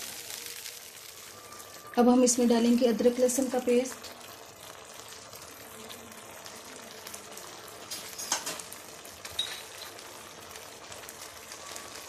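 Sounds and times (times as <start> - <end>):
sauce bubbling and sizzling: 0.0 - 12.0.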